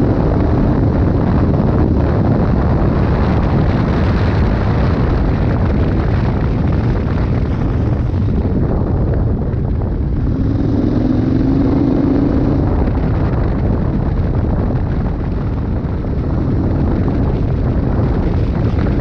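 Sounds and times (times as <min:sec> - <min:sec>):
wind buffeting microphone: 0:00.0 - 0:19.0
motorcycle engine: 0:00.1 - 0:19.0.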